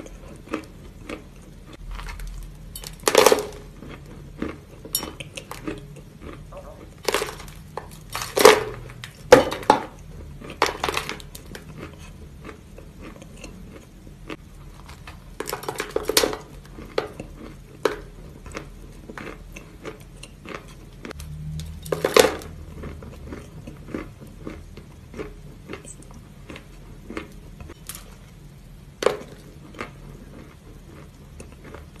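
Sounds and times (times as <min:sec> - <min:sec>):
crackling chewing: 0:00.0 - 0:09.3, 0:09.9 - 0:28.6, 0:29.2 - 0:32.0
cookie crunching: 0:00.0 - 0:32.0.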